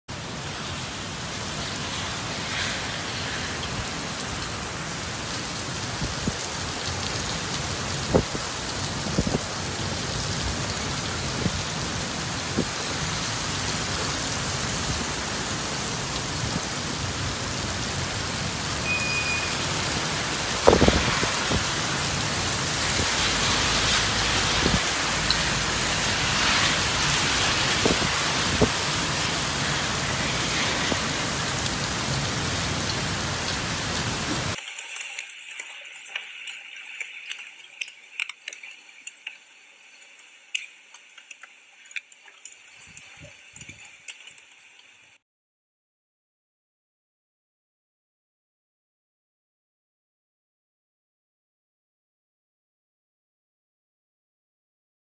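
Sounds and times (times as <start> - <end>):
heavy rain on pavement: 0.1 - 45.2.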